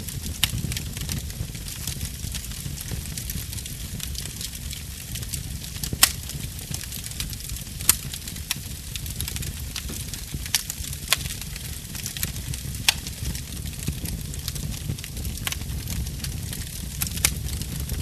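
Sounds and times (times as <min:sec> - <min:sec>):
low rumble of flame: 0:00.0 - 0:18.0
wood fire crackling: 0:00.0 - 0:18.0
sharp pops of fire: 0:00.1 - 0:18.0.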